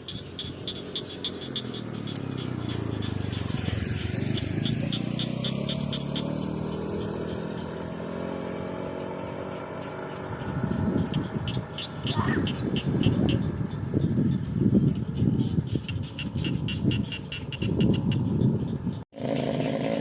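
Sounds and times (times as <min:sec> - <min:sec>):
frogs calling: 0:00.0 - 0:20.0
vehicle engine passing by: 0:00.0 - 0:20.0.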